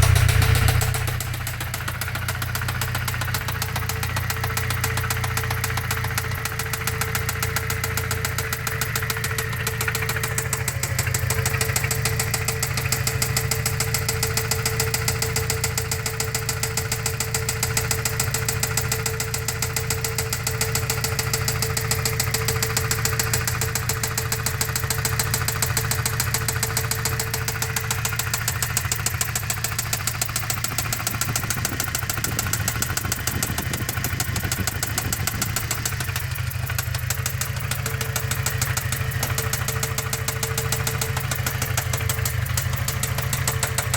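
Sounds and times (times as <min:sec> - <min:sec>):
engine idling: 0:00.0 - 0:43.9
rapid even engine knocking: 0:00.0 - 0:43.9.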